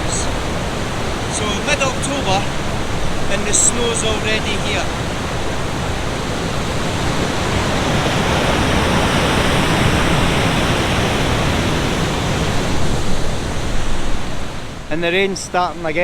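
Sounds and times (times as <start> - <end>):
waterfall and river rushing: 0.0 - 16.0.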